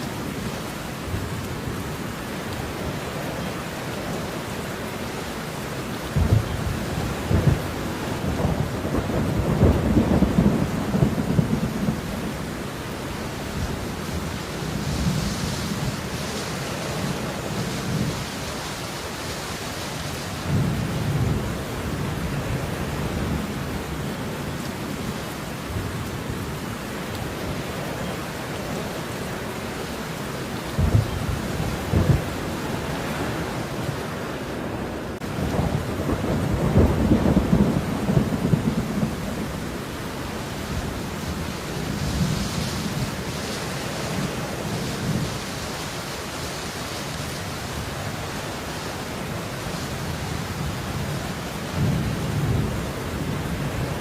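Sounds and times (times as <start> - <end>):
steady rain: 0.0 - 54.0
thunder rumbling: 6.0 - 19.2, 20.1 - 46.3, 47.8 - 54.0.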